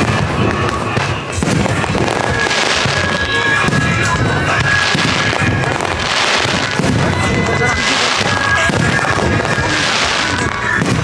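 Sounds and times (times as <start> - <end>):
fireworks bangs and crackling: 0.0 - 11.0
fireworks hissing: 0.0 - 11.0
music: 0.0 - 11.0.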